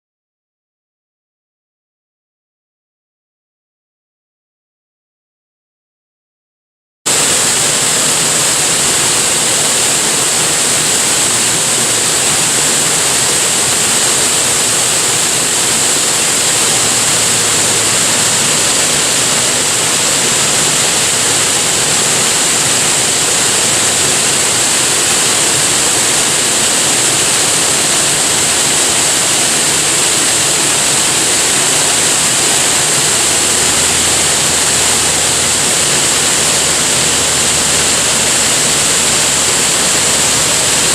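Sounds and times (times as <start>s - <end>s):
waterfall rushing: 7.1s - 40.9s.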